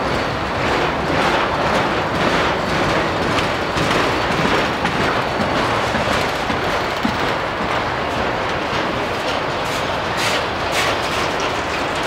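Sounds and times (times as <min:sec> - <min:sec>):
freight train wheels clattering: 0:00.0 - 0:12.0.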